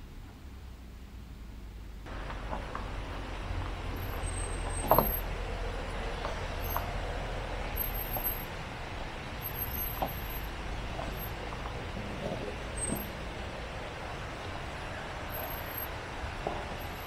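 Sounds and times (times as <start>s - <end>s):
van engine running low: 0.0s - 17.0s.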